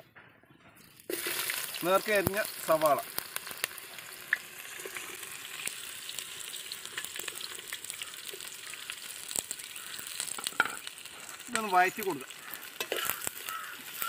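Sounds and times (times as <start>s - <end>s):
onions sizzling in hot oil: 0.9s - 14.0s.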